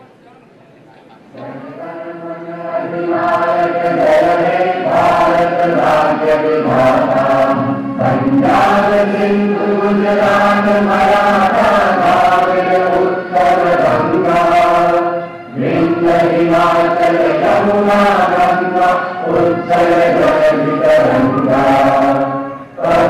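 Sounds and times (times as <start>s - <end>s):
children's choir chanting: 1.4s - 23.0s.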